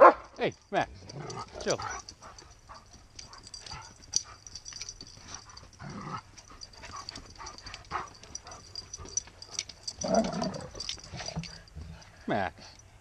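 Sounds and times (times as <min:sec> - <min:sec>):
dogs vocalizing: 0:01.1 - 0:12.1
paws scuffing in dirt: 0:01.1 - 0:12.2.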